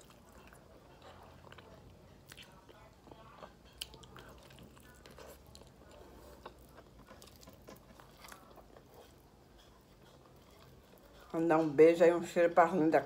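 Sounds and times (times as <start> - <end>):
person chewing food: 0.0 - 11.3.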